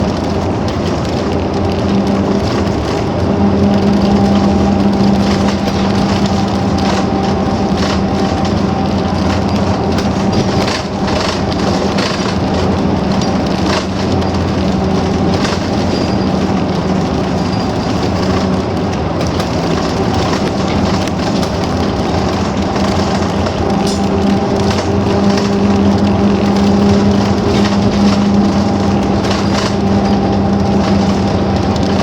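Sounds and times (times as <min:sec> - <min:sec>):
bus engine hum: 0:00.0 - 0:32.0
tyre and road noise: 0:00.0 - 0:32.0.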